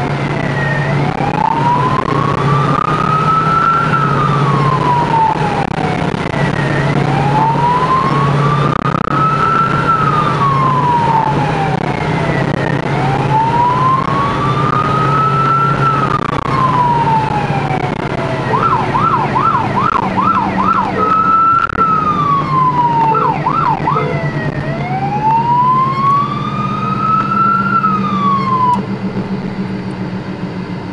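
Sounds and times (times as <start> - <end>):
police siren wailing and yelping: 0.0 - 28.9
car engine humming: 0.0 - 30.9.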